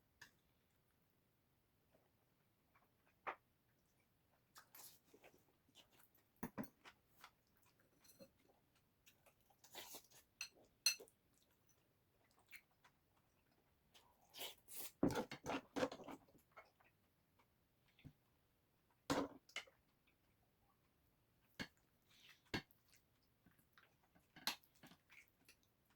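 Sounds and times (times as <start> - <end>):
chewing and crunching: 2.6 - 18.1, 19.6 - 25.9.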